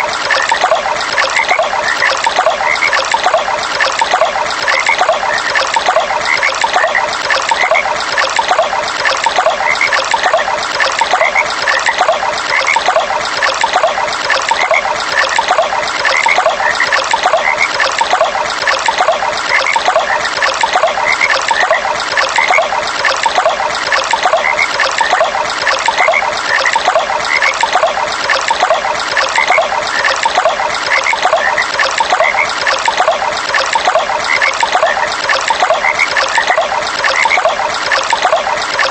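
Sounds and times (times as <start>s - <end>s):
frogs croaking: 0.0s - 38.9s
water trickling: 0.0s - 38.9s.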